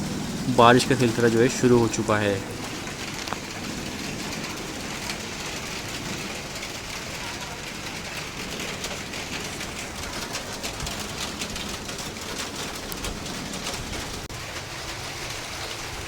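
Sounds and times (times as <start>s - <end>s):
rain on hard surfaces: 0.0s - 16.0s.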